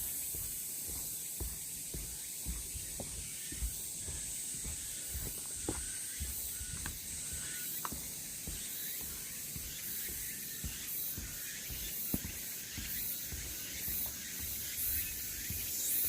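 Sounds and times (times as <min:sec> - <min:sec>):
cicadas buzzing: 0:00.0 - 0:16.0
soft footsteps: 0:00.0 - 0:16.0.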